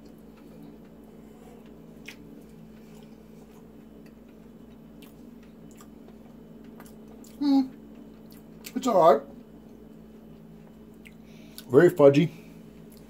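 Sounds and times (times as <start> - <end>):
person chewing: 0.0 - 8.8, 9.4 - 11.7, 12.7 - 13.0
low hum: 0.0 - 13.0.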